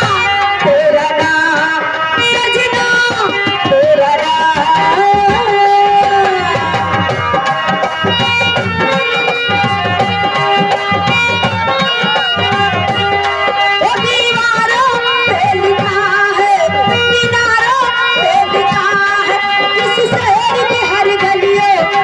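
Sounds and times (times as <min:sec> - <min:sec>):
tabla drum rhythm: 0:00.0 - 0:22.0
wavering instrumental melody: 0:00.0 - 0:22.0.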